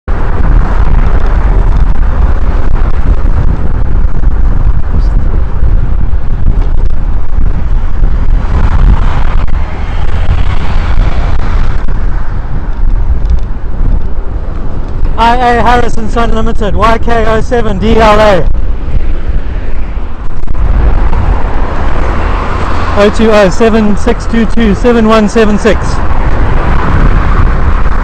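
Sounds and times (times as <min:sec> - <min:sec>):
traffic noise: 0:00.0 - 0:28.0
wind rumble on microphone: 0:00.0 - 0:28.0.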